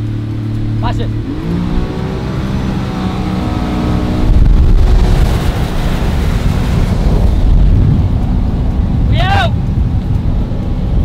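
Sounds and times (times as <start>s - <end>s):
boat engine revving: 0.0s - 11.0s
wind and water rushing: 0.0s - 11.0s.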